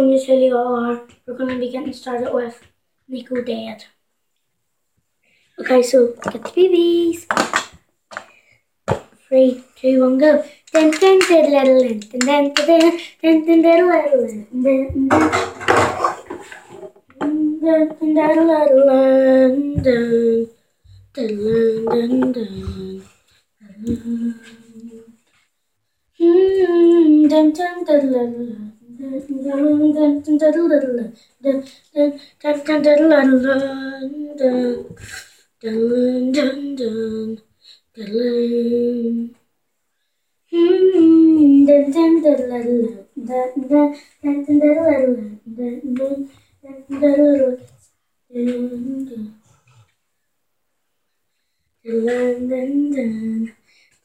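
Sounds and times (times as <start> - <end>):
child singing wordless tune: 0.0 - 4.1, 5.4 - 7.4, 8.9 - 15.5, 17.0 - 25.3, 26.1 - 39.5, 40.5 - 49.5, 51.4 - 54.0.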